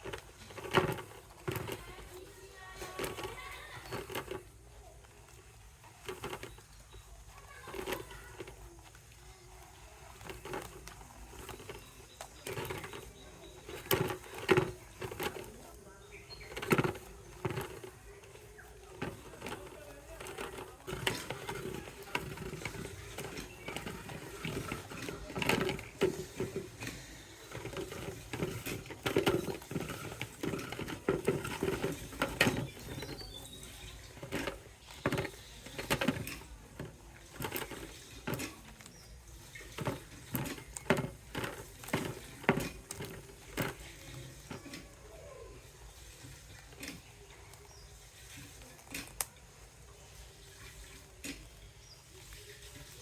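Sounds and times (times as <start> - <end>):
plant fibres rustling and crackling: 0.0 - 53.0.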